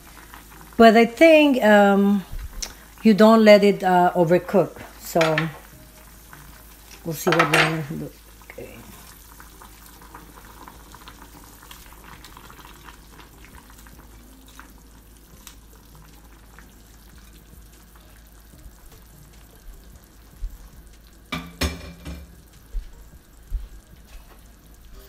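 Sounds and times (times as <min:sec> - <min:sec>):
broth simmering and sizzling: 0:00.0 - 0:25.0.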